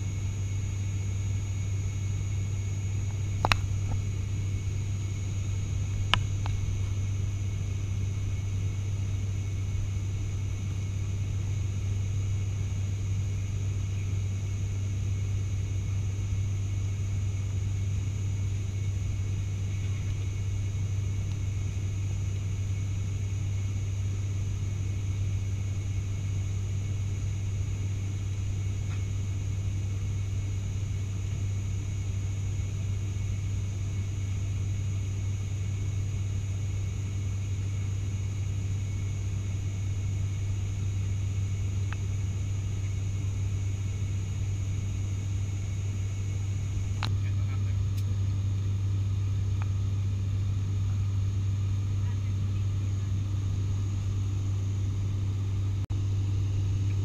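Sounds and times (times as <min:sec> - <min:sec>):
turboprop engine drone in cabin: 0:00.0 - 0:57.0.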